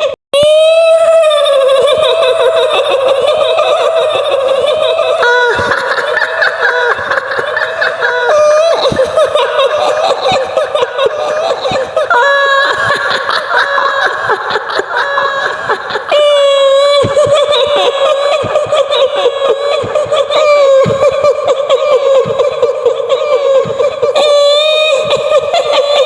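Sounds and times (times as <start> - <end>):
woman cackling laughter: 1.8 - 26.0.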